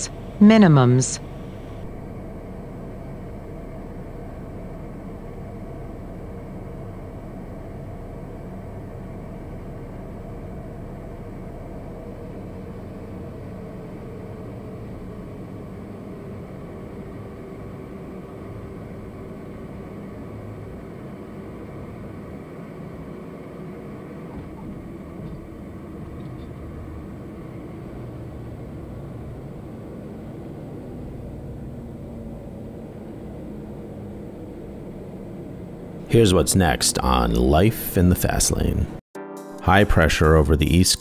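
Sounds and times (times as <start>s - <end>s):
turboprop engine in cockpit: 0.0s - 38.8s
faint hum: 0.0s - 39.0s.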